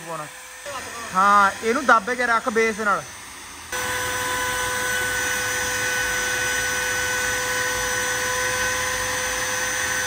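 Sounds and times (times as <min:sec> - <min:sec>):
router whining: 0:00.0 - 0:10.0.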